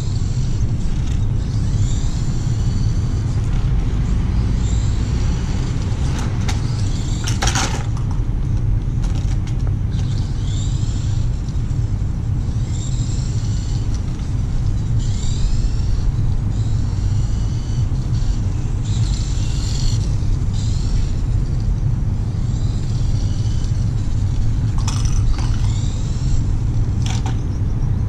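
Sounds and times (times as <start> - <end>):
electric motor whining: 0.0 - 8.1, 9.9 - 27.3.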